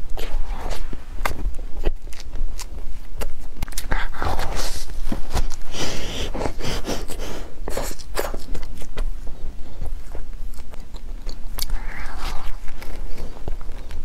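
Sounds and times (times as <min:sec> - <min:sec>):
crunchy biting and chewing: 0:00.1 - 0:14.0
wet mouth sounds: 0:00.1 - 0:14.0.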